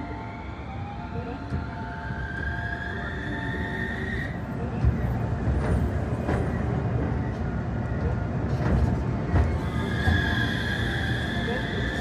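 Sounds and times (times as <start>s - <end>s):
tram motor whine: 0.0s - 12.0s
wheels rumbling on rail: 0.0s - 12.0s.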